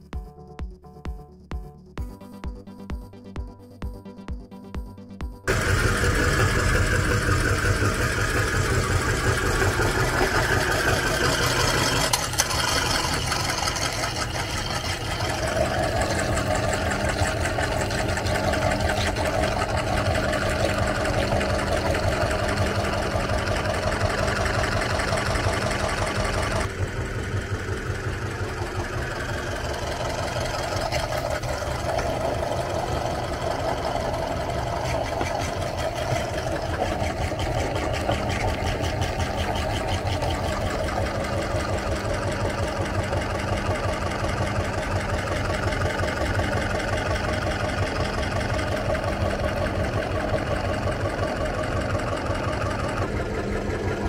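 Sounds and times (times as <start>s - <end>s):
meat grinder running: 5.5s - 54.0s.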